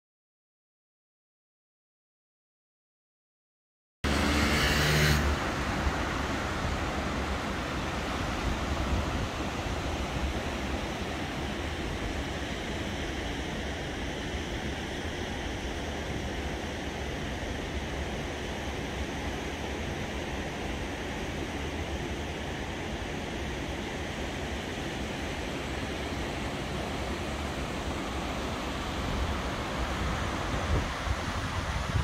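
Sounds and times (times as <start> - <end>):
whitewater river rushing: 4.1 - 32.0
low wind rumble: 5.2 - 32.0.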